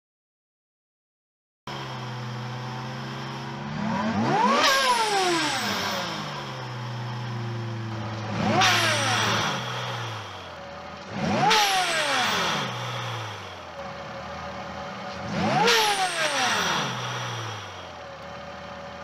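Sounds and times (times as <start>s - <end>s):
car engine idling and revving: 1.7s - 19.0s.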